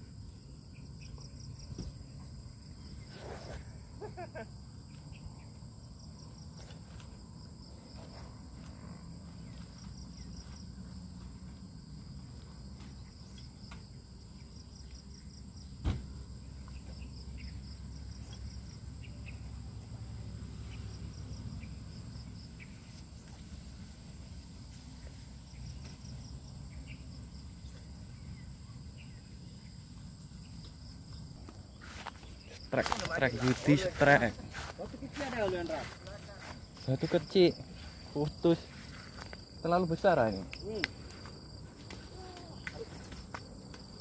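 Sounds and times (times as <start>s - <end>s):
insects chirping in rapid pulses: 0.0s - 44.0s.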